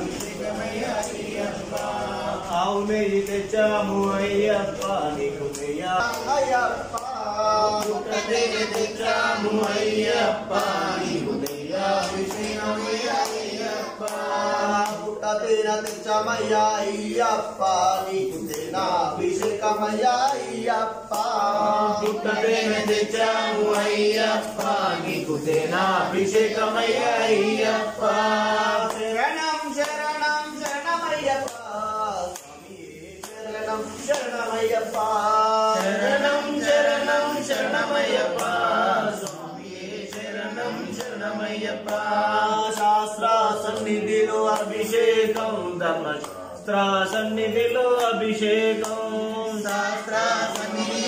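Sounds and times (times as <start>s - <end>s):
group chanting a devotional song: 0.0s - 51.0s.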